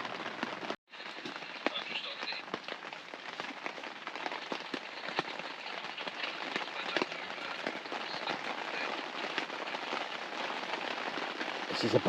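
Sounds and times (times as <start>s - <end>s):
rain pattering on a tent: 0.0s - 12.0s
sharp raindrop taps: 0.0s - 12.0s.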